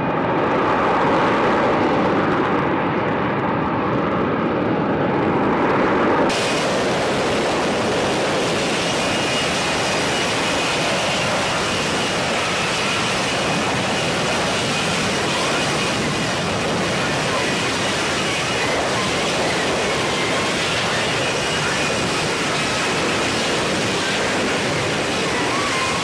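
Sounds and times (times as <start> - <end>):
hovering jet engine roar: 0.0 - 26.0.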